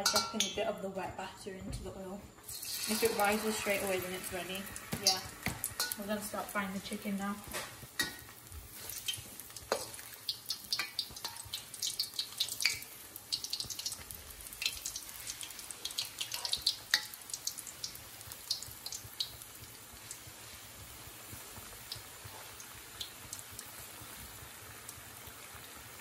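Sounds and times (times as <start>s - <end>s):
chicken deep-frying with crackles: 2.4s - 26.0s.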